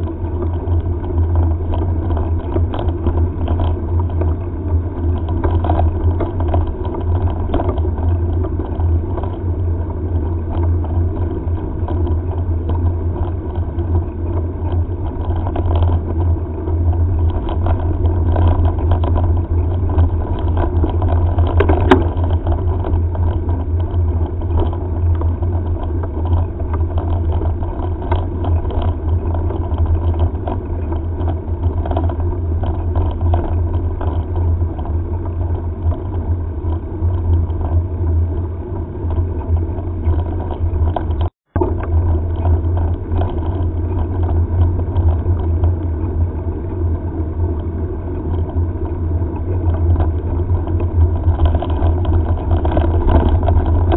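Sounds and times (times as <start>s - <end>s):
small rattles and knocks: 0.0s - 53.9s
wind buffeting microphone: 0.0s - 53.9s.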